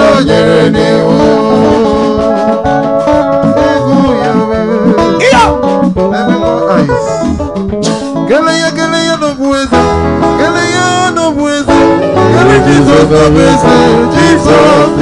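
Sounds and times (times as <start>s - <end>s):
drum kit: 0.0s - 15.0s
electric guitar lead line: 0.0s - 15.0s
person singing: 0.0s - 15.0s.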